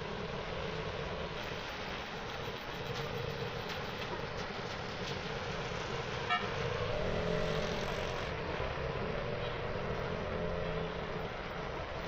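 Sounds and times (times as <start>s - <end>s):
passing motor vehicles: 0.0s - 12.0s.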